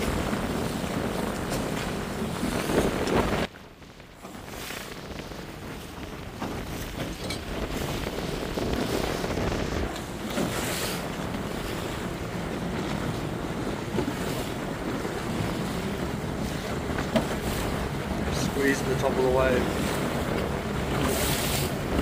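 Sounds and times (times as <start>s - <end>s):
water rushing against boat hull: 0.0s - 22.0s
water splashes: 0.0s - 22.0s
wind buffeting microphone: 0.0s - 22.0s.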